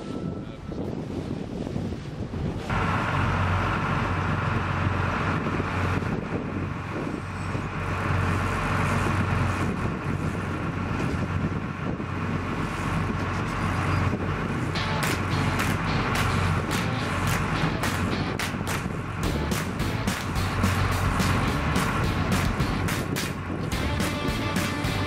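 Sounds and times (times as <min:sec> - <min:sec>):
boat engine running: 0:02.6 - 0:25.0.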